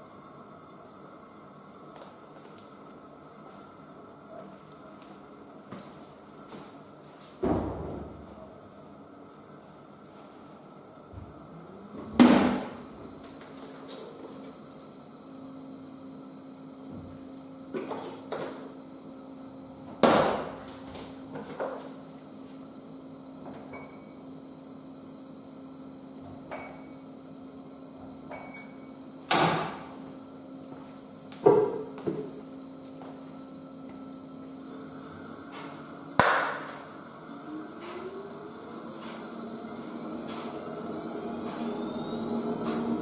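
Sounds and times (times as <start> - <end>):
washing machine humming: 0.0 - 43.0.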